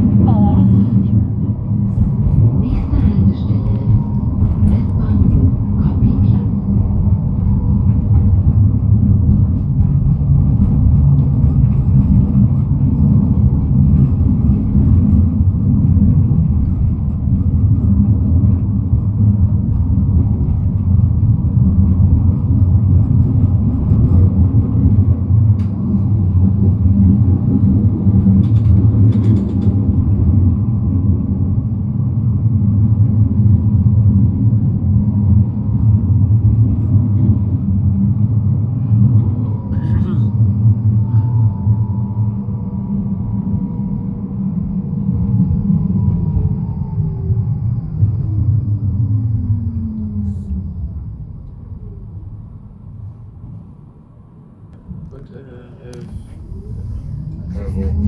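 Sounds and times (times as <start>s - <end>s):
tram wheels rumbling on track: 0.0s - 58.0s.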